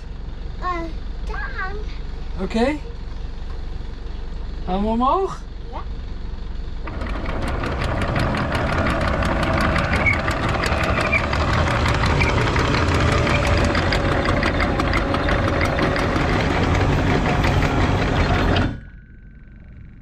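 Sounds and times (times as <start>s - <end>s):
windlass motor rumble: 0.0s - 20.0s.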